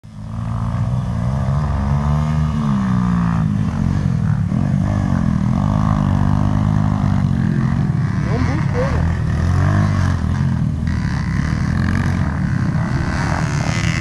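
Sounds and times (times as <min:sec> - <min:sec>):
dirt bike engine revving: 0:00.1 - 0:14.0.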